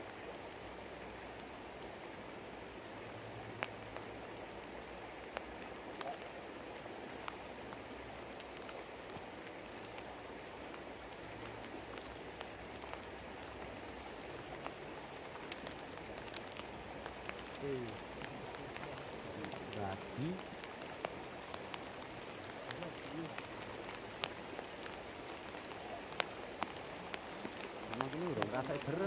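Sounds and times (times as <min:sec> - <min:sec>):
river running: 0:00.0 - 0:29.0
steady rain: 0:00.0 - 0:29.0.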